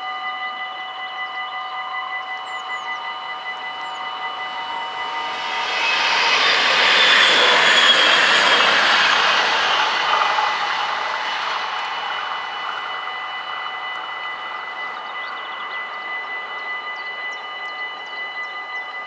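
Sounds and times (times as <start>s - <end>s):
level crossing warning bells: 0.0s - 19.0s
diesel railcar running: 1.8s - 19.0s.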